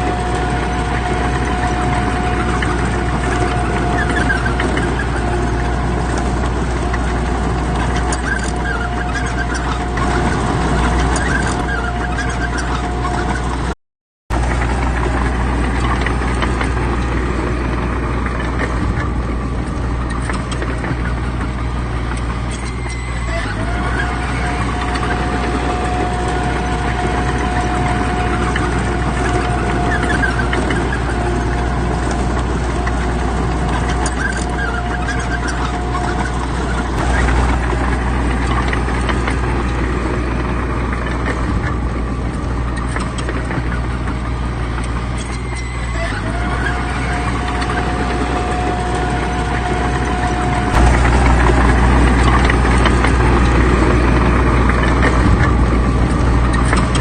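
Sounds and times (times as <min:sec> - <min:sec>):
diesel machinery engine drone: 0:00.0 - 0:57.0
high whine: 0:00.0 - 0:57.0.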